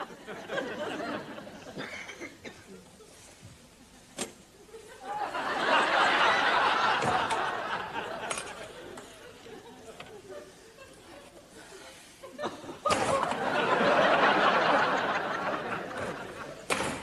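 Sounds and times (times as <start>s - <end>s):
audience laughing: 0.0s - 16.8s.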